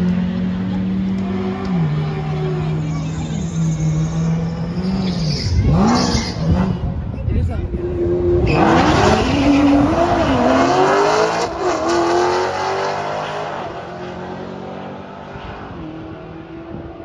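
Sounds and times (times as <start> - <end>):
drag car engines revving: 0.0 - 17.0.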